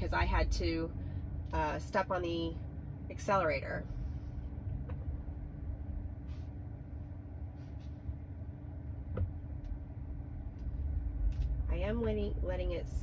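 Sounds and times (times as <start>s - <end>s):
car cabin low rumble: 0.0s - 13.0s
faint steady hum: 0.0s - 13.0s.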